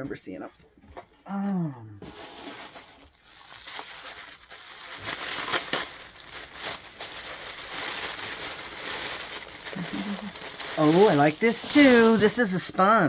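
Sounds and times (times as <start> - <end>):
plastic bag crinkling: 2.2 - 12.6.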